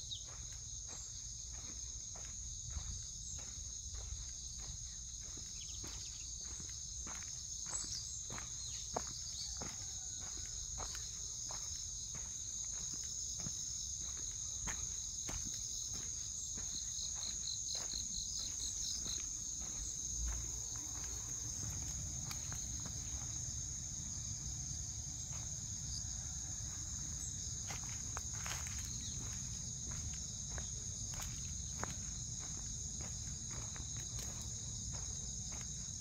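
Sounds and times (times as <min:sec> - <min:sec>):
footsteps on leafy path: 0:00.0 - 0:36.0
insects chirring: 0:00.0 - 0:36.0.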